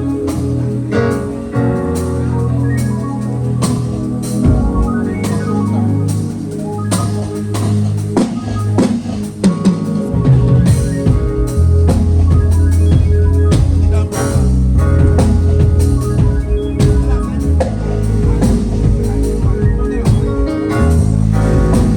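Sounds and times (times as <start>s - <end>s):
drum kit: 0.0s - 21.9s
keyboard chords: 0.0s - 21.9s
low bass notes: 0.0s - 21.9s.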